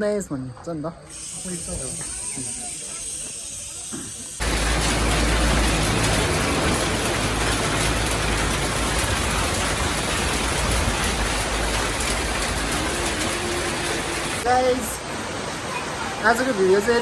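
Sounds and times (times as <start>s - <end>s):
heavy rain hiss: 1.0s - 17.0s.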